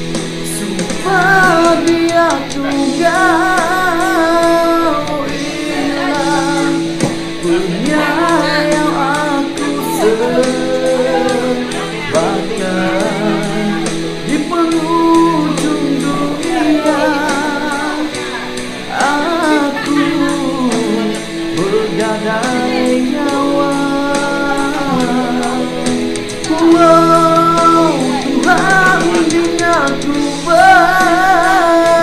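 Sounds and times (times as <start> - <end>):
guitar: 0.0 - 32.0
person singing: 0.0 - 32.0
steady beat: 0.0 - 32.0.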